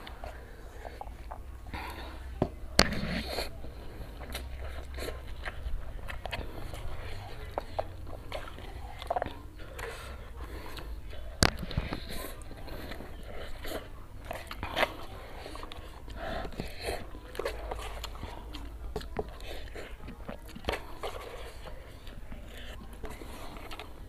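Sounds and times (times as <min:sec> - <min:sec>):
chewing and slurping noodles: 0:00.0 - 0:24.0.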